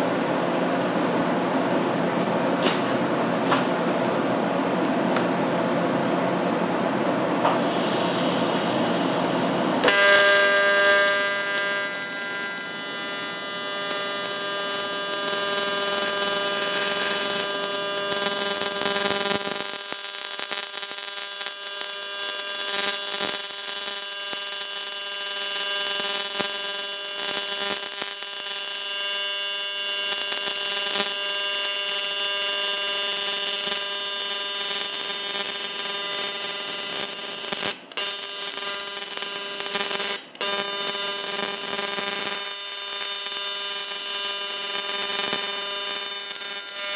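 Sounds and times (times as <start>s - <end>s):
welding arc buzzing: 7.5s - 46.9s
welding hiss: 7.6s - 46.9s.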